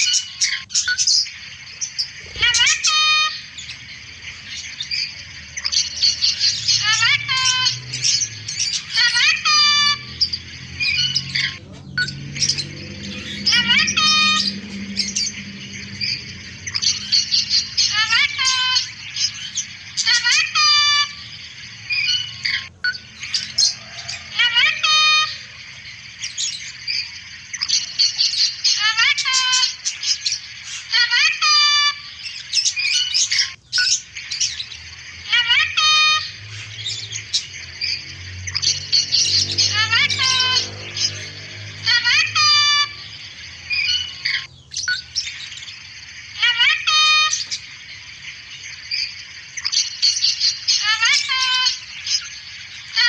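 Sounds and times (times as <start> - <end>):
cockatoo squawking: 0.0 - 47.8, 49.6 - 53.0
high chirping: 0.0 - 53.0.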